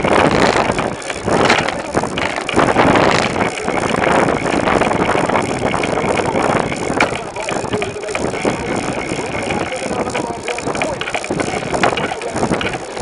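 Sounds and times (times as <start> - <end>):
road and tyre noise: 0.0 - 13.0
wind buffeting microphone: 0.0 - 13.0.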